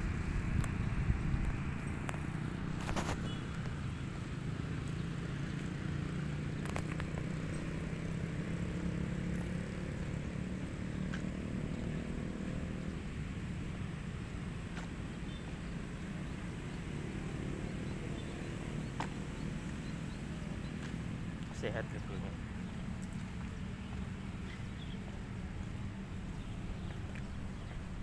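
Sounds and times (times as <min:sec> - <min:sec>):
street traffic hum: 0:00.0 - 0:28.0
vehicle engine running: 0:00.0 - 0:28.0.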